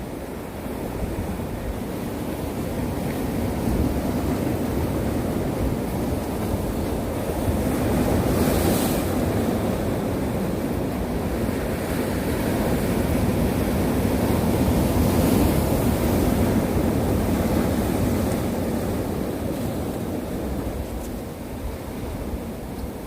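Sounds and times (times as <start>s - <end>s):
sea waves breaking: 0.0s - 23.0s.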